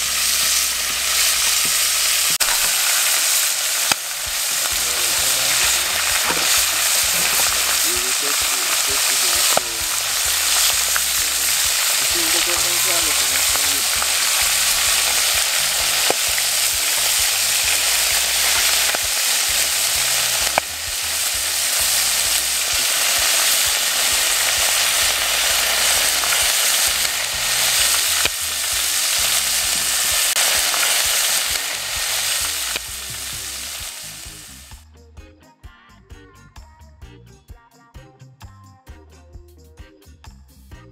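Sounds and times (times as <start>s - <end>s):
food sizzling in a pot: 0.0s - 34.8s.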